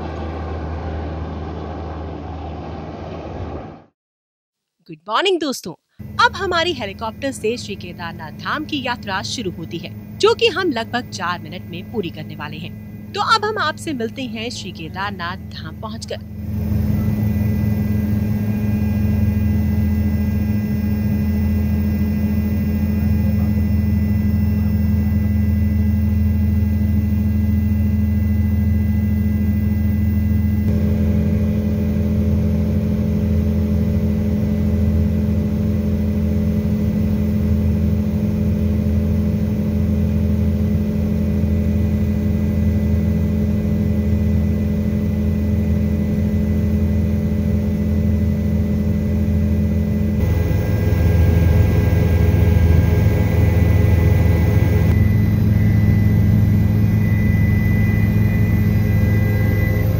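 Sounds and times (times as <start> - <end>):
helicopter engine and rotor drone: 6.0 - 59.9
thin turbine whine: 6.0 - 59.9.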